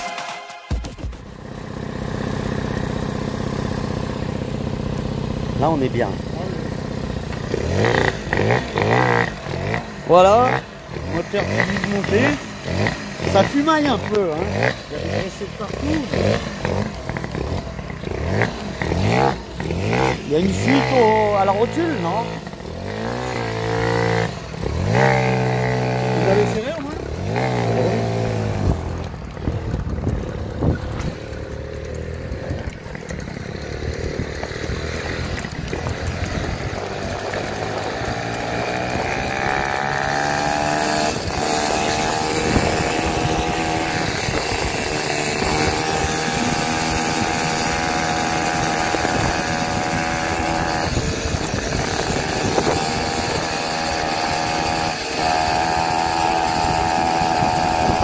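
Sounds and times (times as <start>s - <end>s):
moped engine revving: 0.0s - 58.0s.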